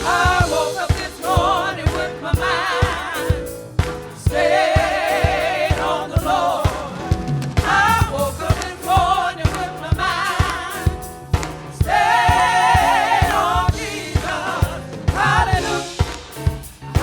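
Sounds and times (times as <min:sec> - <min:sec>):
band with steady drum beat: 0:00.0 - 0:17.0
gospel choir singing: 0:00.0 - 0:17.0.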